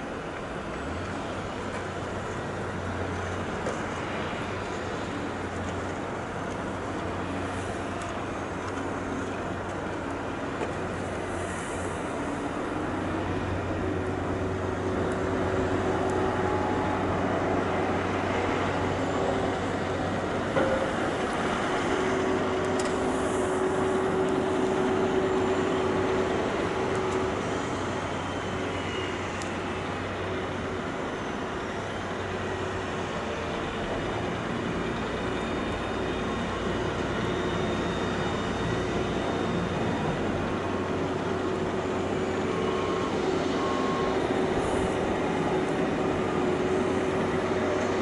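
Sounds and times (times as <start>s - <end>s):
diesel engines droning: 0.0s - 48.0s.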